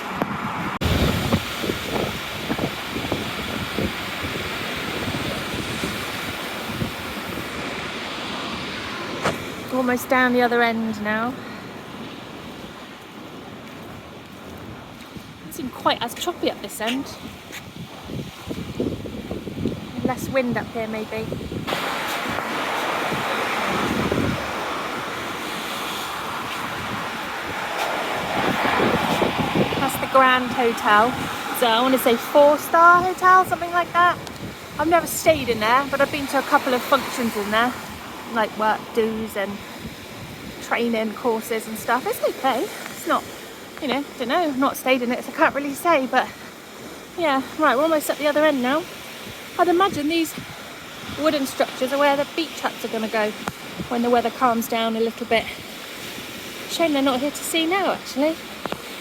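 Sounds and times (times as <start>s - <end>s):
waves on choppy sea: 0.0s - 59.0s
wind buffeting microphone: 0.0s - 59.0s.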